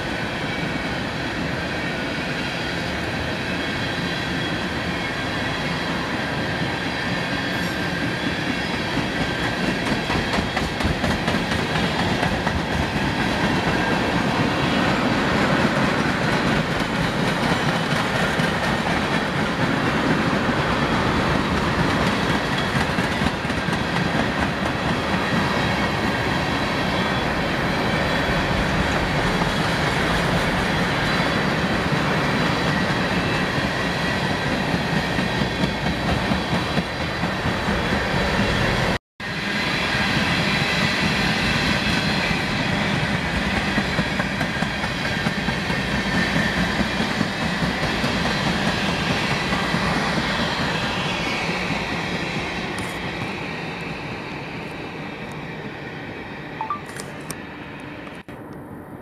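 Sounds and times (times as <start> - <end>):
train wheels clickety-clack: 0.0 - 54.1.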